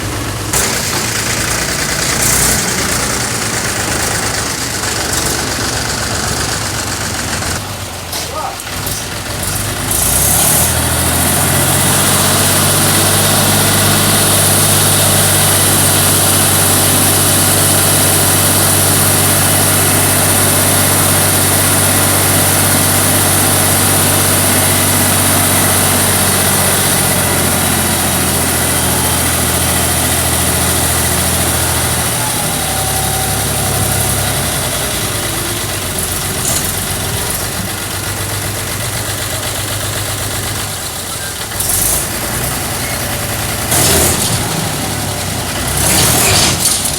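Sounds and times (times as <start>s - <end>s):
tipper dumping earth: 0.0s - 46.9s
tractor engine running: 0.0s - 46.9s.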